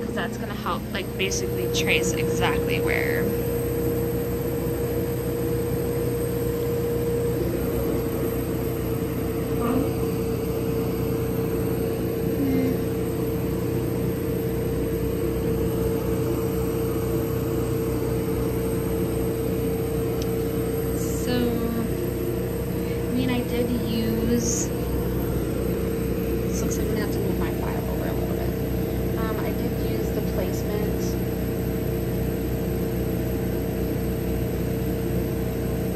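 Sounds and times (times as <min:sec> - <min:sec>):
laser cutter fans humming: 0:00.0 - 0:35.9.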